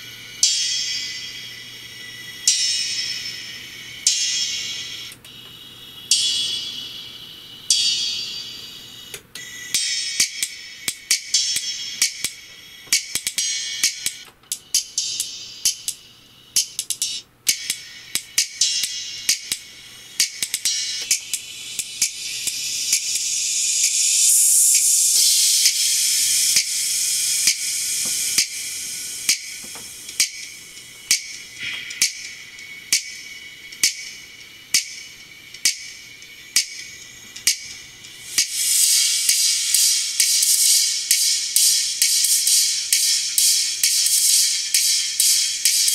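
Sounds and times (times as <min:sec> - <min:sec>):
hi-hat and cymbal strikes: 0:00.0 - 0:45.9
treble-only music through tweeters: 0:00.0 - 0:45.9.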